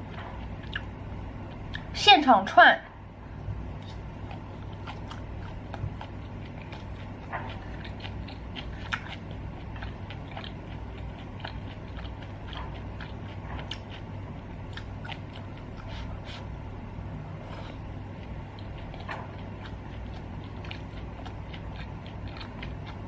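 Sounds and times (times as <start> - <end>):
person chewing with mouth clicks: 0.0 - 1.9, 3.6 - 23.0
low steady hum: 0.0 - 23.0.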